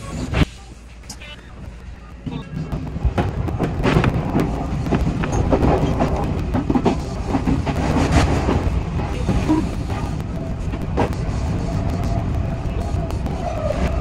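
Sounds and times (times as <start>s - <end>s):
train running rumble: 0.0s - 14.0s
wheels clattering over track: 2.3s - 14.0s.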